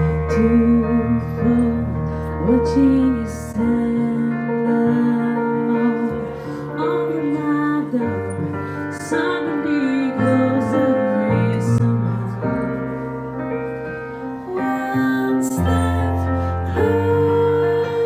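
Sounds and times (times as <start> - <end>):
woman singing: 0.0 - 12.9, 14.4 - 18.0
keyboard piano accompaniment: 0.0 - 18.0.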